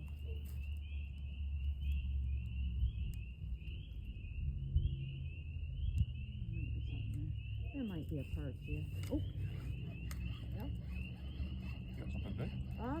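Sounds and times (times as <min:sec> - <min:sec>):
frogs peeping: 0:00.0 - 0:13.0
steady low rumble: 0:00.0 - 0:13.0.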